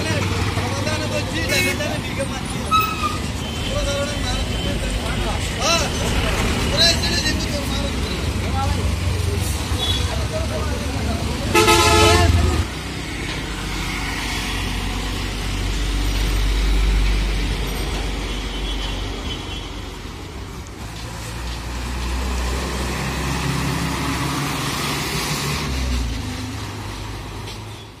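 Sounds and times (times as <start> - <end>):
heavy trucks driving past: 0.0 - 28.0.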